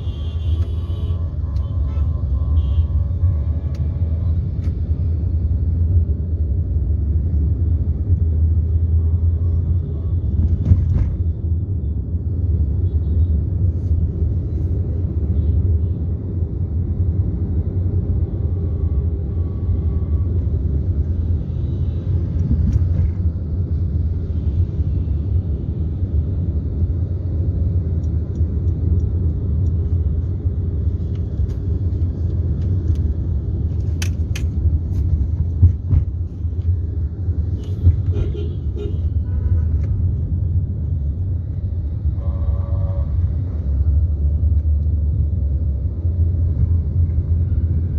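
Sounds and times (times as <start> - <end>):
vehicle rumbling in motion: 0.0 - 47.9.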